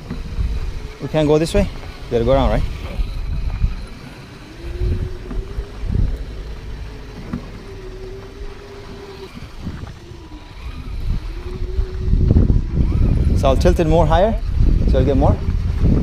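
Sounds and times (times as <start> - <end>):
electric motor whining: 0.0 - 16.0
low thumps and rumbles: 0.0 - 16.0.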